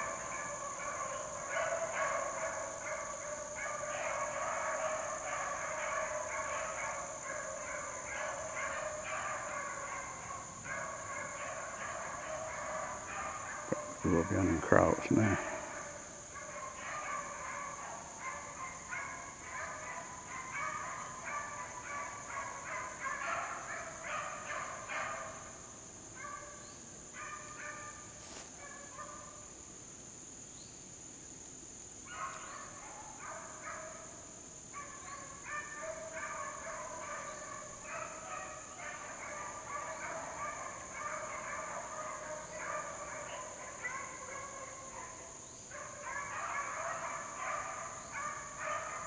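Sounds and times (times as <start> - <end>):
hounds baying: 0.0 - 25.6, 34.8 - 49.0.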